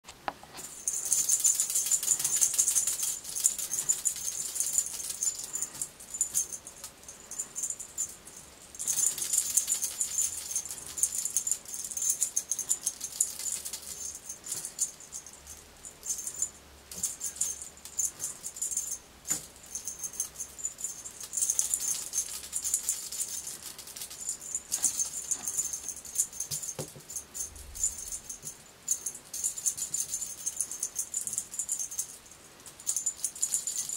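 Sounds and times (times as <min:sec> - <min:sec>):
cat toy jingling rattle: 0:00.6 - 0:33.9.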